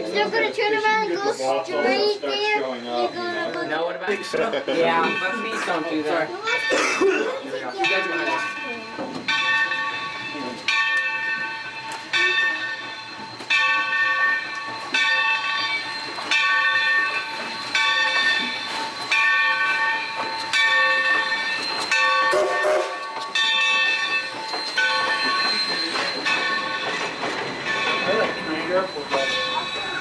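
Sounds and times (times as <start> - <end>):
locomotive bell ringing: 0.0 - 30.0.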